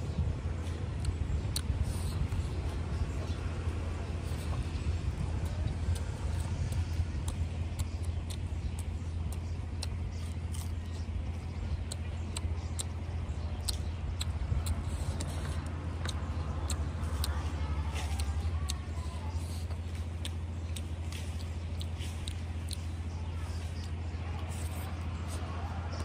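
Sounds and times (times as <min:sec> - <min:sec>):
chewing and mouth clicks: 0:00.0 - 0:26.0
steady low rumble: 0:00.0 - 0:26.0.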